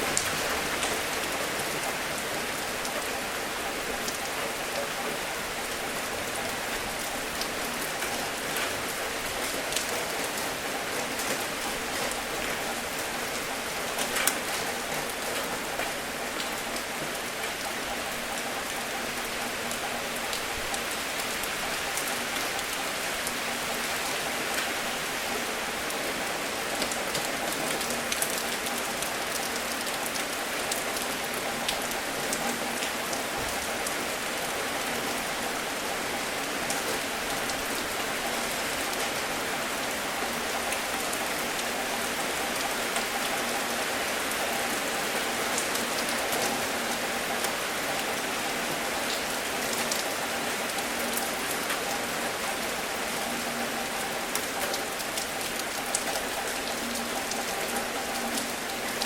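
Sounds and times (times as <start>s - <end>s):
steady rain falling: 0.0s - 59.0s
raindrops ticking: 0.1s - 23.4s, 26.7s - 35.7s, 36.6s - 59.0s.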